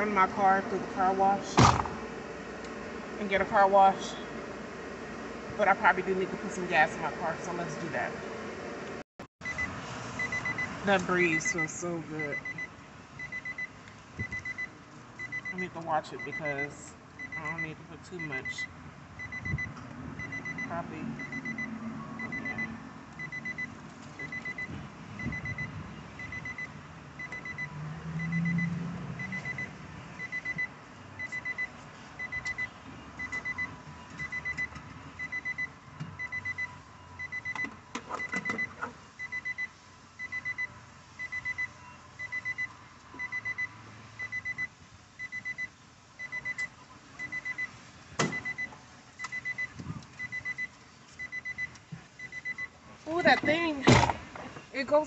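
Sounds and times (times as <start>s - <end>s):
car warning chime beeping: 9.4s - 53.8s.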